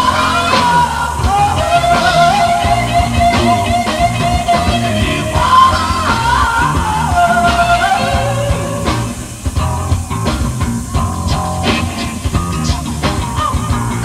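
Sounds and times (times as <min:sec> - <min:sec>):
bass guitar: 0:00.0 - 0:14.0
drums: 0:00.0 - 0:14.0
electric guitar lead: 0:00.0 - 0:14.0.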